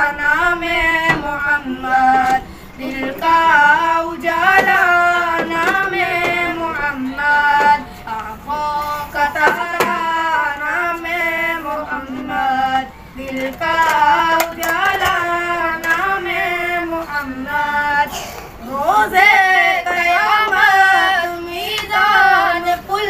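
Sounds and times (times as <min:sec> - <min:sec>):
person singing devotional song: 0:00.0 - 0:23.0.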